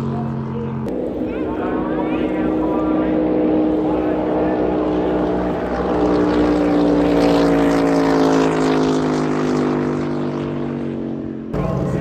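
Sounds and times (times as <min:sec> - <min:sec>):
boat engine running hard: 0:00.0 - 0:12.0
steadier engine note: 0:00.0 - 0:12.0.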